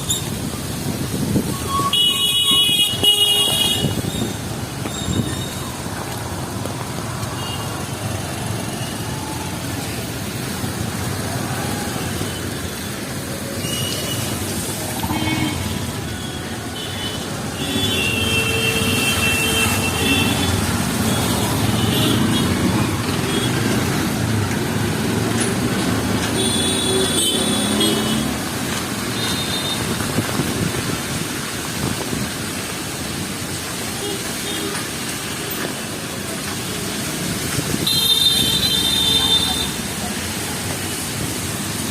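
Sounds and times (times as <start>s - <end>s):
heavy rain: 0.0s - 41.9s
vehicles passing on wet road: 0.0s - 41.9s.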